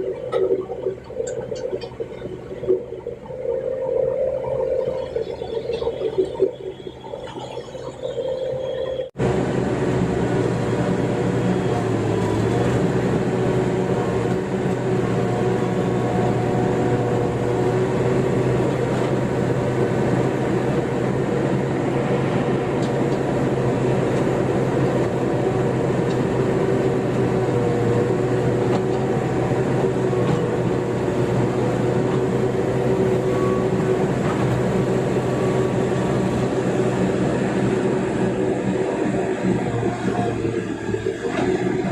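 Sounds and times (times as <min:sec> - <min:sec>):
excavator engine and hydraulics: 0:00.0 - 0:41.9.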